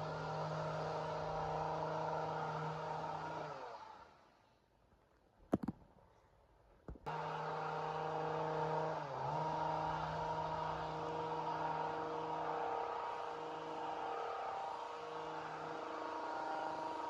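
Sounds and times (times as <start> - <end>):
chainsaw engine running: 0.0 - 4.1, 7.1 - 17.0.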